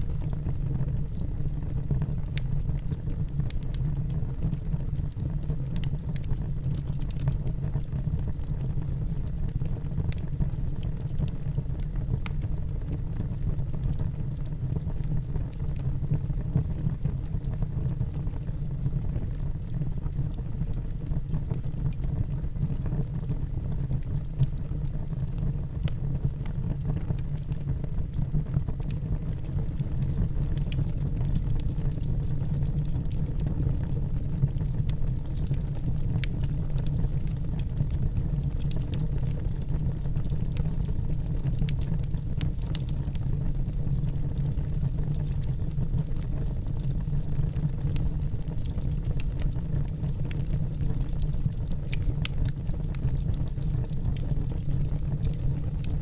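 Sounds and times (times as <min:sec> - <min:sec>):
fire low rumble: 0:00.0 - 0:56.0
wood crackling and popping: 0:00.1 - 0:56.0.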